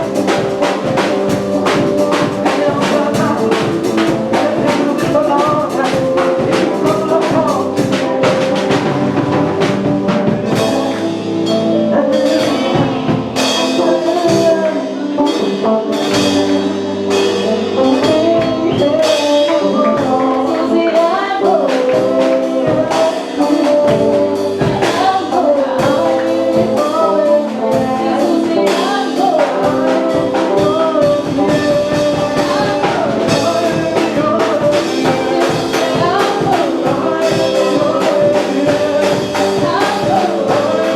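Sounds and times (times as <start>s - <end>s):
brass: 0.0s - 40.9s
drum kit beat: 0.0s - 40.9s
people singing: 0.0s - 40.9s.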